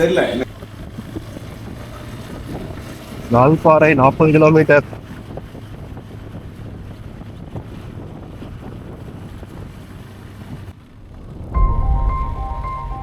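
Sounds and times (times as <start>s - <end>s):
motorcycle engine drone: 0.0s - 13.0s
wind noise on microphone: 0.4s - 3.3s, 4.8s - 13.0s.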